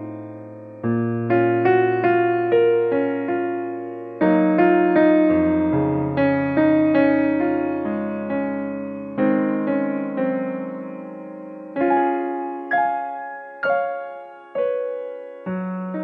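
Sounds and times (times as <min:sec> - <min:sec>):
keyboard playing chords: 0:00.0 - 0:16.0.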